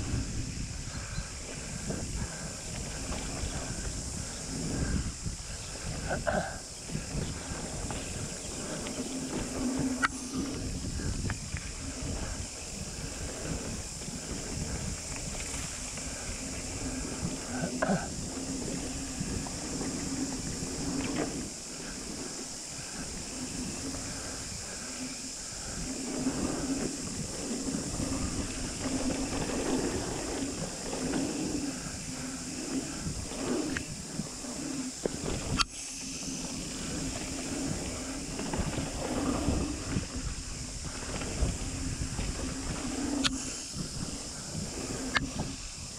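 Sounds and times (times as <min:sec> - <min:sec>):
bike tyres rolling on dirt: 0:00.0 - 0:45.9
high hiss: 0:00.0 - 0:45.9
wind rumble: 0:00.0 - 0:45.9.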